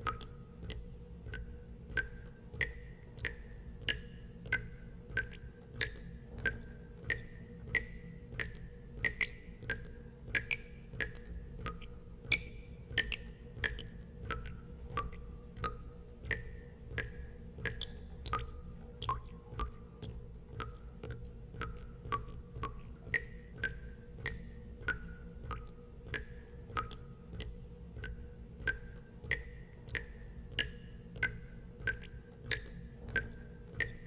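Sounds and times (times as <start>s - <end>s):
steady low hum: 0.0s - 34.0s
water drops plinking into water: 0.0s - 34.0s.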